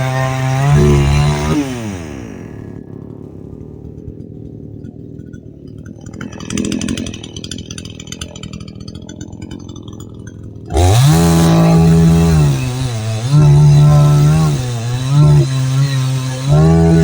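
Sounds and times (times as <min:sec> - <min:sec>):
chainsaw engine revving: 0:00.0 - 0:17.0.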